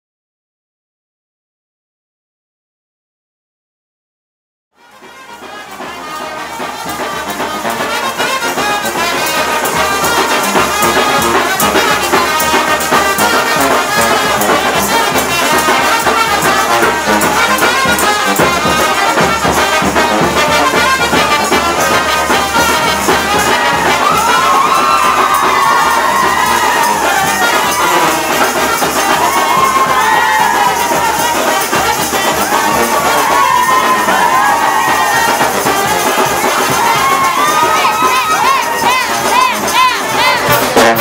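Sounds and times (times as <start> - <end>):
brass band playing: 4.8 - 41.0
tambourine jingles: 5.2 - 41.0.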